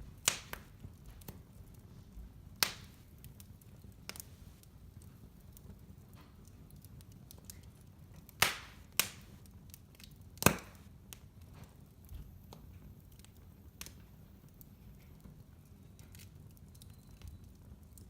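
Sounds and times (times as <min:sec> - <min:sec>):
loud pops of burning wood: 0:00.0 - 0:18.0
wood fire crackling: 0:00.0 - 0:18.0.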